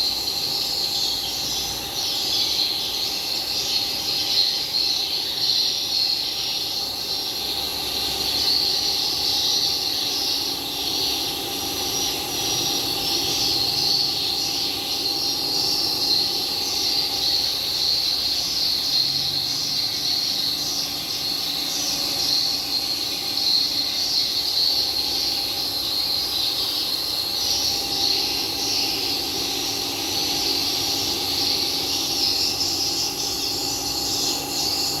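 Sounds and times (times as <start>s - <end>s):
humidifier hissing and humming: 0.0s - 35.0s.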